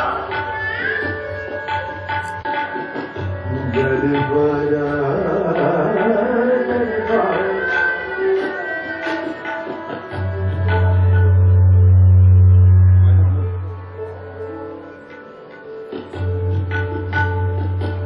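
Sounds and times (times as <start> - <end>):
sustained melodic tones: 0.0 - 18.0
tabla playing: 0.0 - 18.0.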